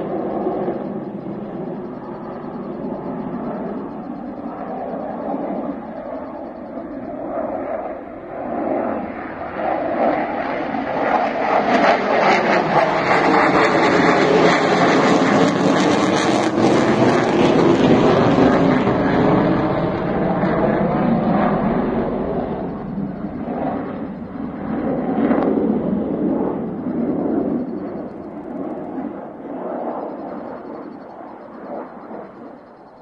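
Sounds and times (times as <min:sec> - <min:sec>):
fighter jet flying overhead: 0:00.0 - 0:33.0.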